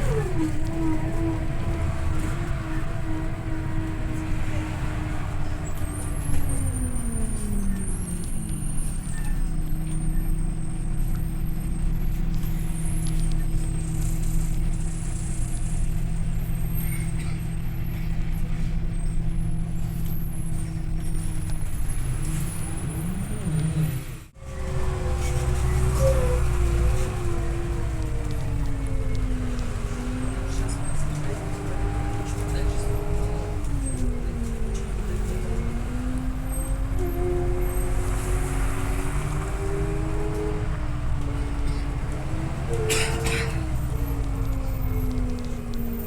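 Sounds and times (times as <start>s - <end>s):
bus engine on board: 0.0s - 46.0s.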